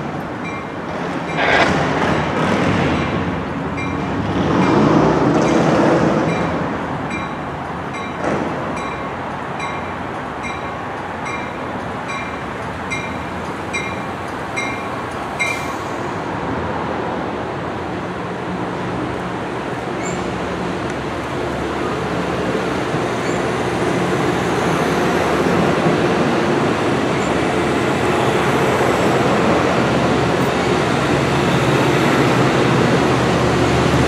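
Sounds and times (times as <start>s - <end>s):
passenger train rumbling on rails: 0.0s - 34.0s.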